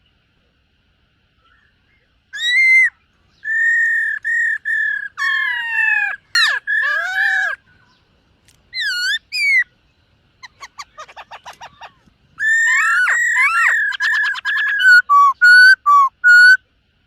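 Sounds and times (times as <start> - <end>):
bird singing whistled notes: 1.4 - 8.1, 8.7 - 16.6.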